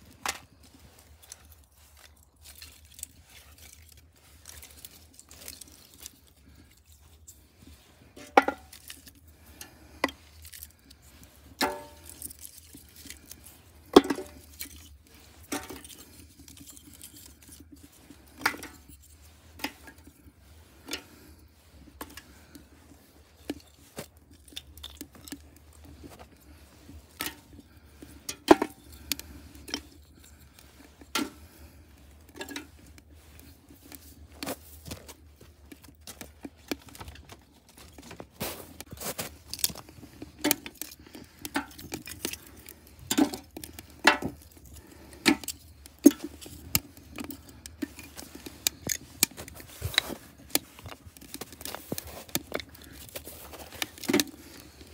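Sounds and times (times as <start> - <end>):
kindling crackling and popping: 0.0 - 54.9.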